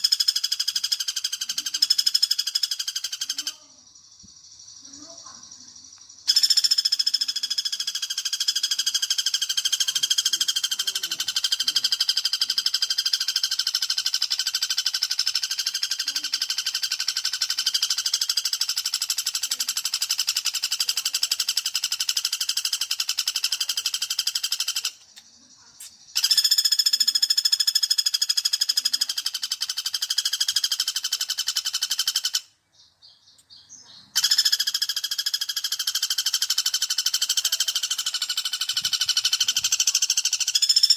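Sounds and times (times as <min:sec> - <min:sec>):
woodpecker trilling rattle call: 0:00.0 - 0:40.9.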